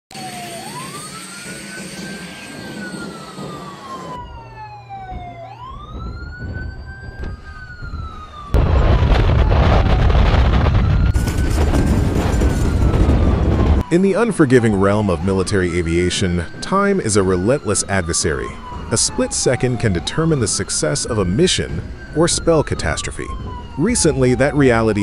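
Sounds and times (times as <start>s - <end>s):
wailing alert siren: 0.1s - 25.0s.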